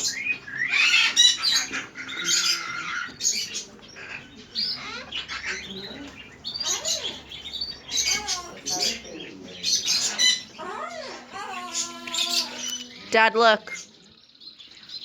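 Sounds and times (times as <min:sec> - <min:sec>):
parrots chirping and squawking: 0:00.0 - 0:15.0.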